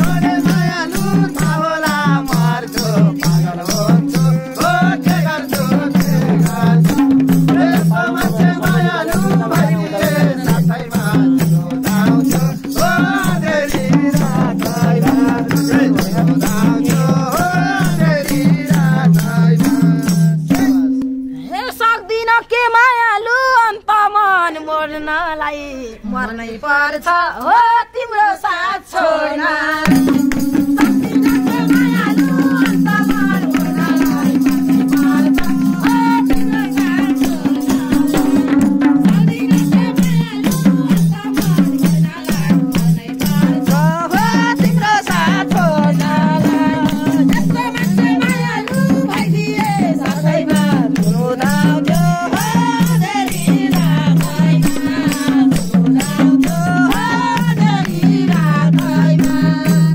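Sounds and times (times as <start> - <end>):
folk band with fast drums: 0.0 - 21.2, 29.8 - 59.9.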